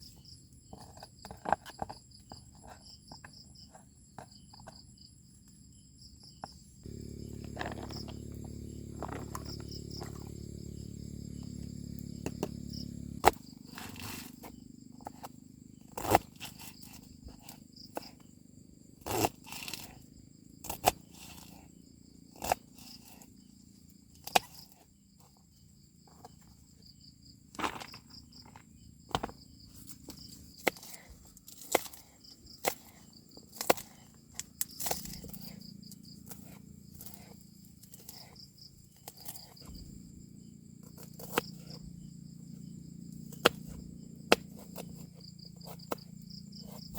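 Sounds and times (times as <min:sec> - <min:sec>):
crickets chirring: 0:00.0 - 0:46.9.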